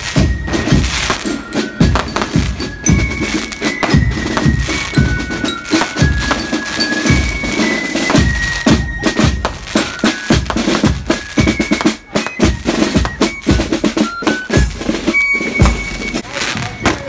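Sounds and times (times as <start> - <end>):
marching band playing: 0.0 - 17.0
snare and bass drums: 0.0 - 17.0.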